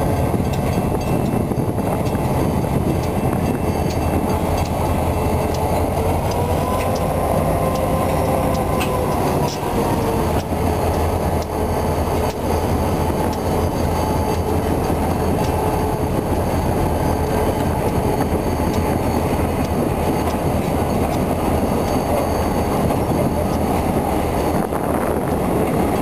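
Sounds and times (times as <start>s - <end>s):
diesel locomotive engines rumbling: 0.0s - 26.0s
steel wheels on rails: 0.0s - 26.0s.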